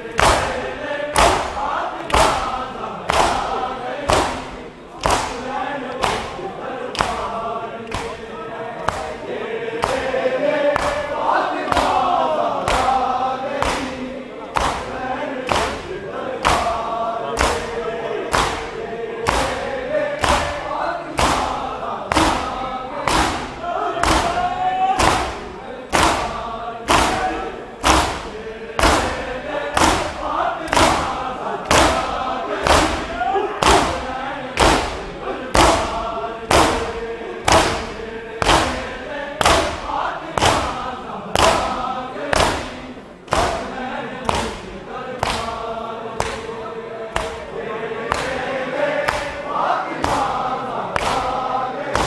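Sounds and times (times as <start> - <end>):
male voices chanting: 0.0 - 52.0
men striking chests in unison: 0.0 - 52.0.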